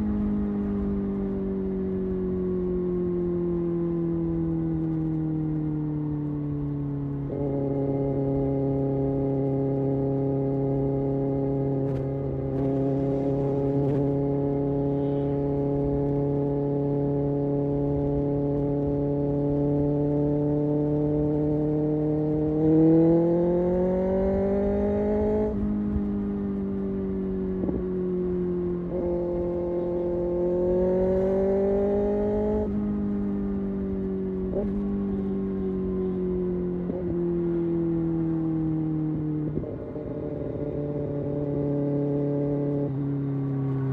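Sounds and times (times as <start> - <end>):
motorcycle engine and exhaust: 0.0 - 43.9.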